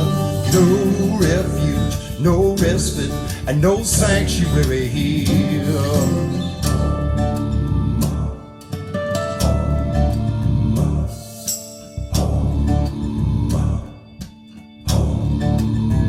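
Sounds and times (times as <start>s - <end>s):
bass guitar: 0.0s - 16.0s
guitar: 0.0s - 16.0s.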